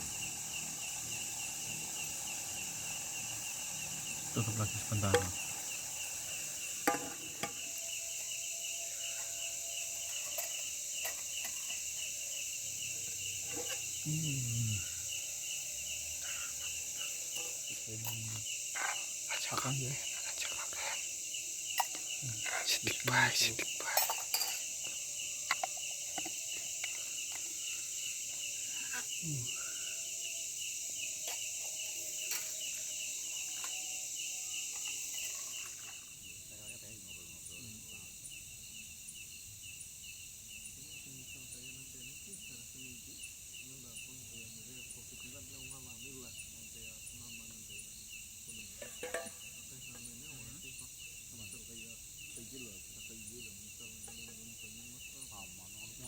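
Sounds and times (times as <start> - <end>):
insect chirping: 0.0 - 56.0
insects buzzing: 0.0 - 56.0.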